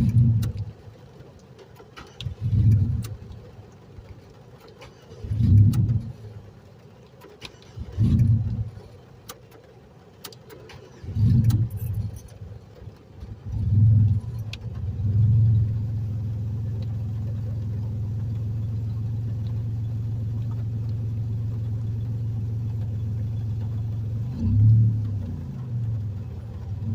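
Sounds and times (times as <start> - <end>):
car engine idling: 0.0 - 26.9
car engine starting and revving: 0.0 - 26.9.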